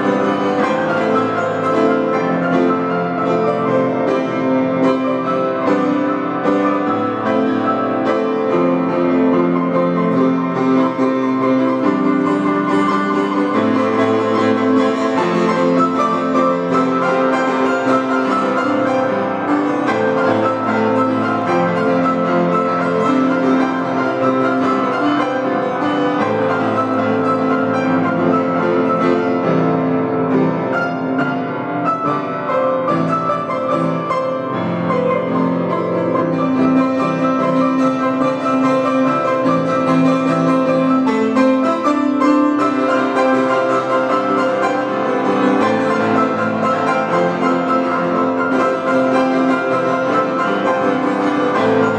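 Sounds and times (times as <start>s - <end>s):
upright piano playing: 0.0s - 51.9s.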